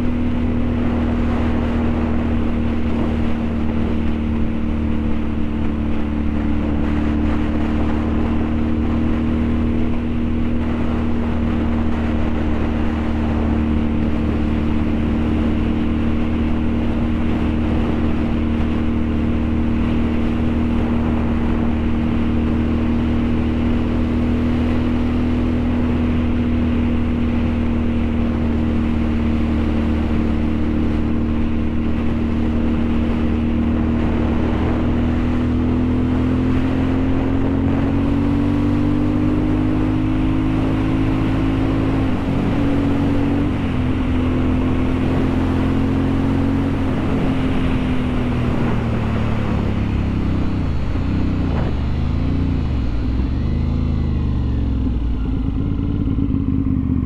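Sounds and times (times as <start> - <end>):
motorcycle engine cruising: 0.0 - 57.0
road noise: 0.0 - 57.0
wind noise: 0.0 - 57.0.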